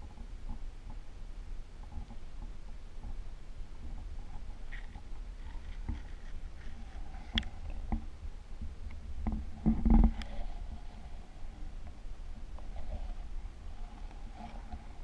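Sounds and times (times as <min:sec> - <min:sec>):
muffled underwater rumbling: 0:01.8 - 0:15.0.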